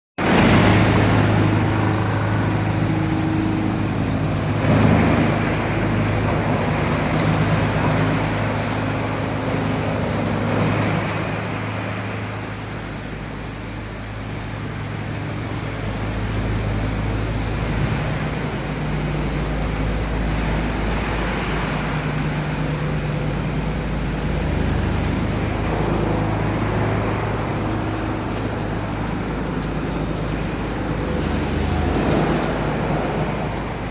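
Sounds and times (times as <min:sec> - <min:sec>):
constant rushing noise: 0:00.2 - 0:33.9
production line machinery humming: 0:00.2 - 0:33.9.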